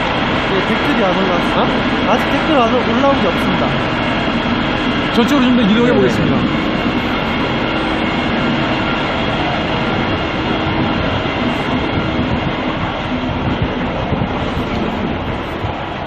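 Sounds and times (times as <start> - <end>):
loud mechanical rumble: 0.0 - 16.0.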